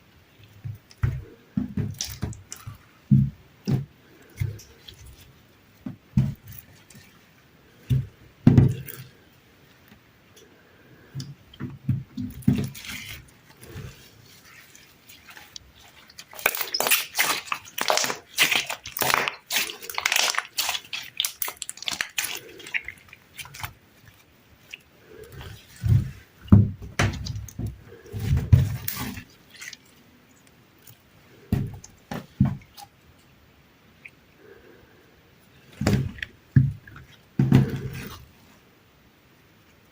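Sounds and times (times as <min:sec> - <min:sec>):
slime squelching: 0:00.3 - 0:33.1, 0:35.5 - 0:38.6.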